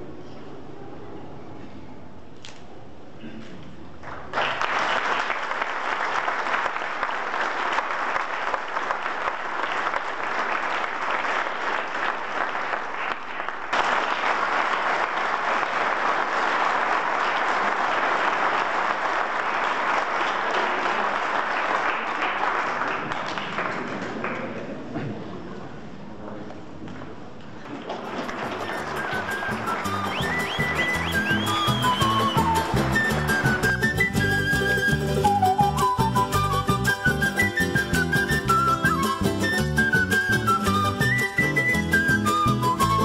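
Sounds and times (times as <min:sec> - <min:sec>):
audience applauding: 0:04.0 - 0:24.8, 0:27.6 - 0:43.0.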